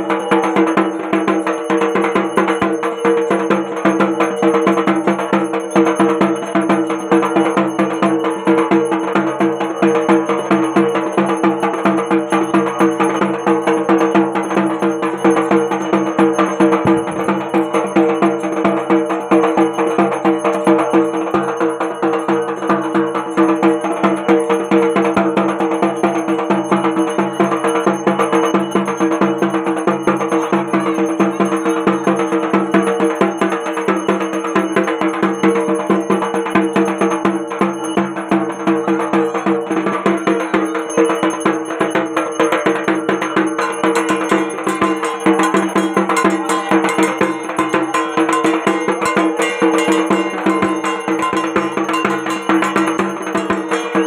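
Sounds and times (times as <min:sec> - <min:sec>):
rhythmic percussion music: 0:00.0 - 0:54.0
ringing bells: 0:00.0 - 0:54.0.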